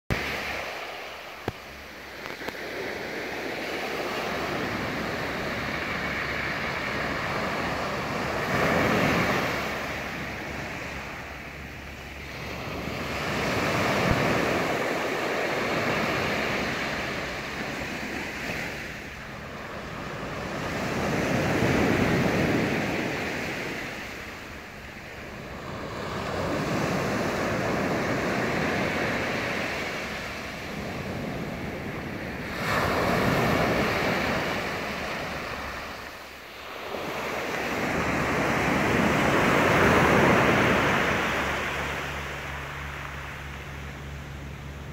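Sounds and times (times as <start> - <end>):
waves washing up a sandy beach: 0.1 - 44.9.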